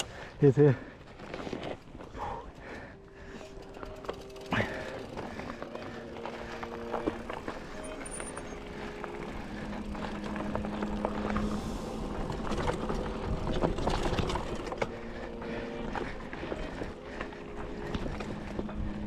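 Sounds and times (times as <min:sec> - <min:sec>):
bike clicks and rattles: 0:00.0 - 0:00.4, 0:01.0 - 0:19.0
bike tyres rumbling over dirt: 0:01.0 - 0:19.0.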